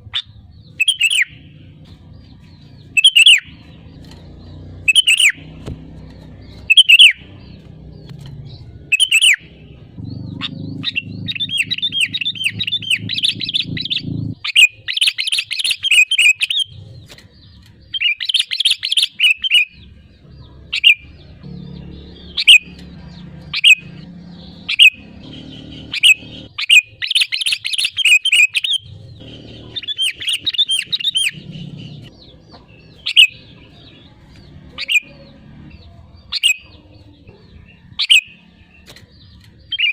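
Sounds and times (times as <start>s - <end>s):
bird chirping and singing: 0.0s - 39.9s.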